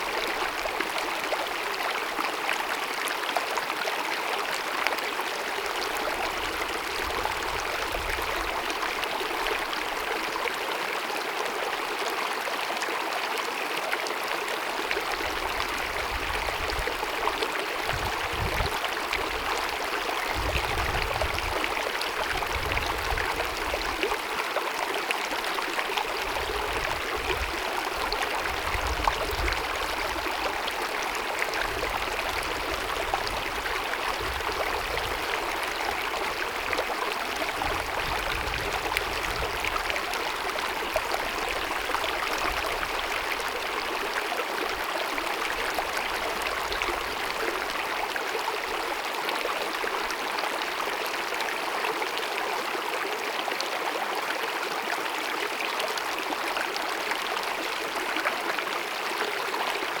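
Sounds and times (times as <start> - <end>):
stream babbling over rocks: 0.0 - 60.0.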